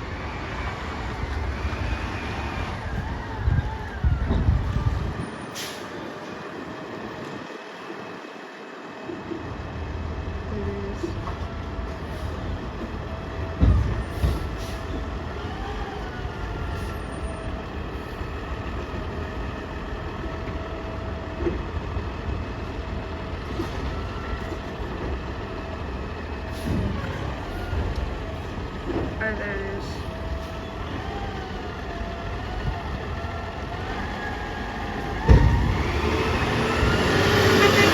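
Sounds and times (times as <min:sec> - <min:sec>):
garbage truck engine rumble: 0:00.0 - 0:37.9.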